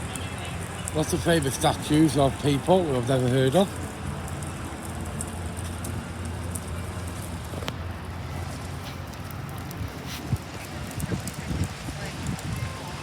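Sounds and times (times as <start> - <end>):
crackling hiss: 0.0 - 13.0.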